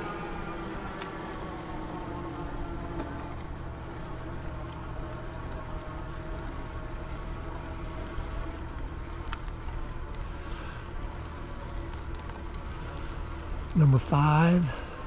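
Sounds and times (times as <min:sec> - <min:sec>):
bicycle tyre noise: 0:00.0 - 0:15.0.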